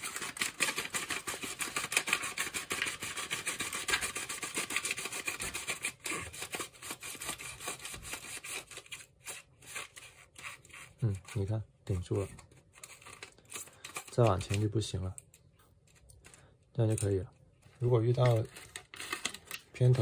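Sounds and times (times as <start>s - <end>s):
film rubbing against plastic: 0.0s - 20.0s.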